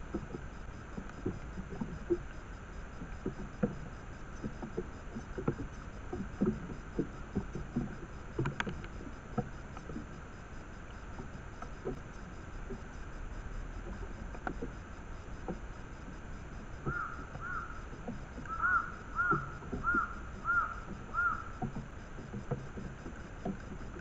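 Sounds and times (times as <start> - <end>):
soft low taps and rustles: 0.0 - 24.0.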